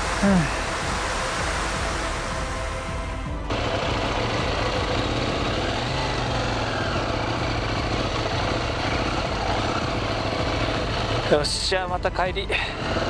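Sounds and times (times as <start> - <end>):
motorcycle engine idling: 0.0 - 13.0
outdoor noise hiss: 0.0 - 13.0.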